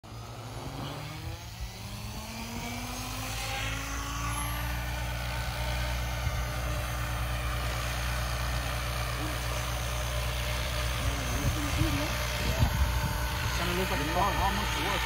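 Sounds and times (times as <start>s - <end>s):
rc helicopter rotor hum: 0.0s - 15.0s.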